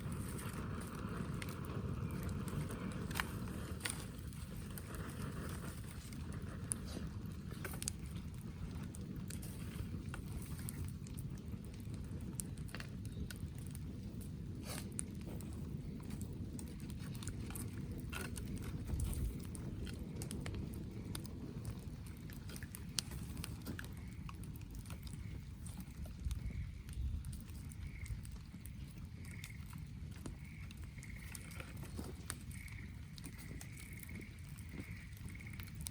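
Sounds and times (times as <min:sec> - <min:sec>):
sharp crackles and ticks: 0:00.0 - 0:35.9
steady low rumble: 0:00.0 - 0:35.9.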